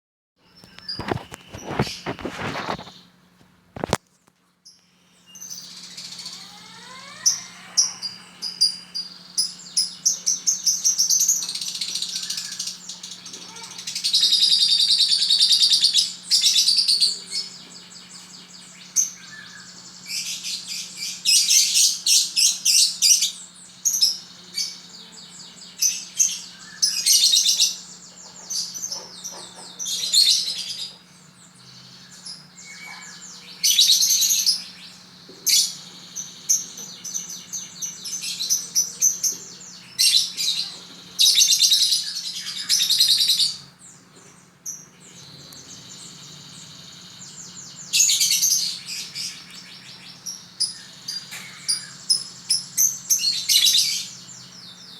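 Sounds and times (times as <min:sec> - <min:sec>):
lovebird chattering trills: 0:05.3 - 0:43.8, 0:44.5 - 0:54.9.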